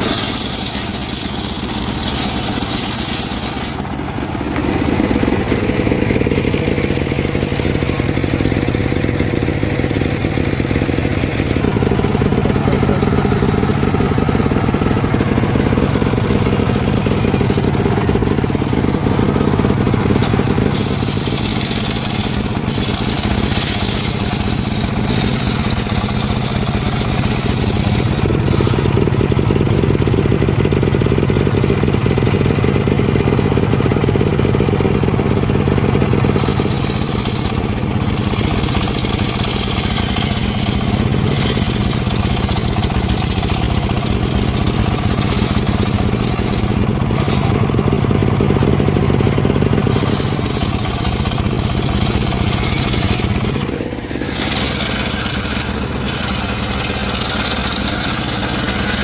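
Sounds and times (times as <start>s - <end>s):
saw blade cutting wood: 0.0s - 30.4s, 35.5s - 48.0s, 49.5s - 59.0s
engine-driven saw running: 0.0s - 59.0s.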